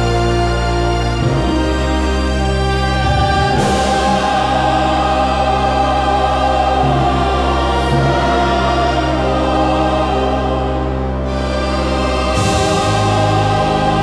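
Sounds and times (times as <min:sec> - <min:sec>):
steady low drone: 0:00.0 - 0:14.0
sustained strings: 0:00.0 - 0:14.0.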